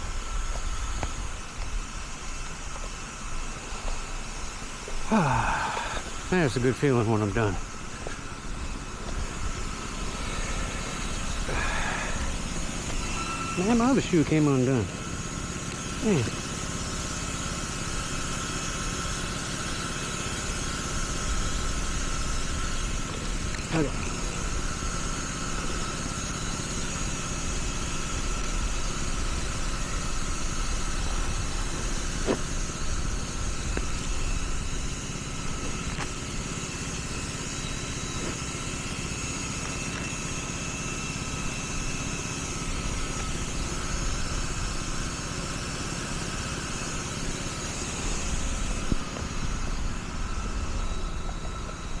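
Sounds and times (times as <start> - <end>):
motor humming with whine: 0.0 - 52.0.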